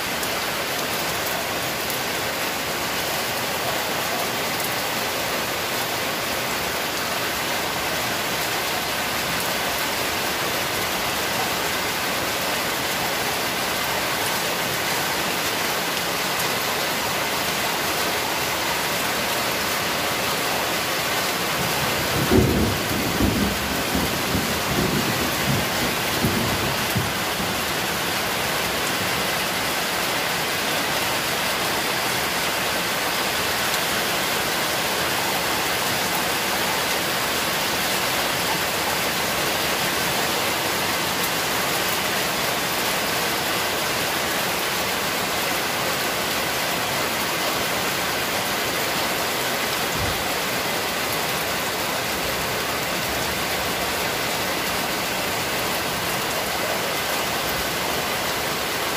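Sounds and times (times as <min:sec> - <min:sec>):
heavy rain on concrete: 0:00.0 - 0:58.9.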